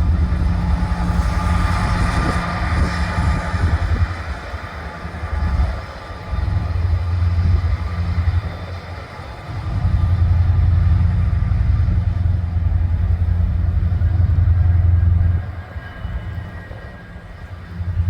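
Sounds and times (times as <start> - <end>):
train passing with low rumble: 0.0 - 18.0.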